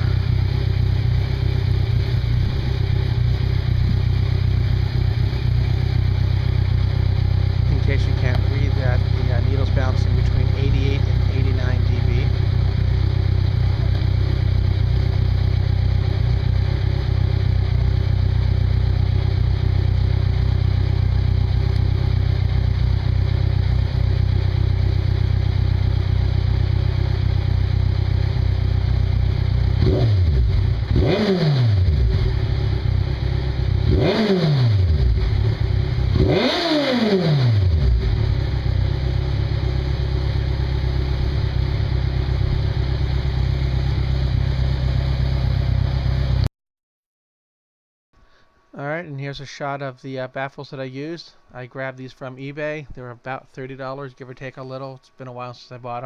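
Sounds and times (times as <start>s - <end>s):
motorcycle engine idling and revving: 0.0s - 46.5s.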